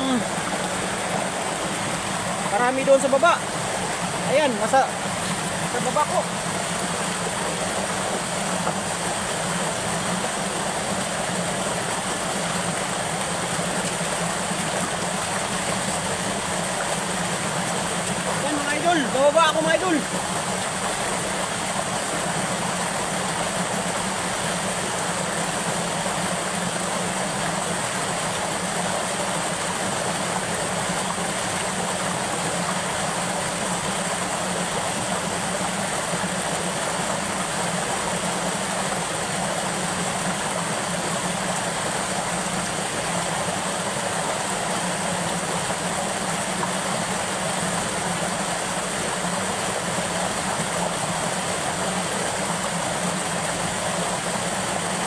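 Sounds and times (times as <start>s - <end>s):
water rushing over spillway: 0.0s - 55.0s.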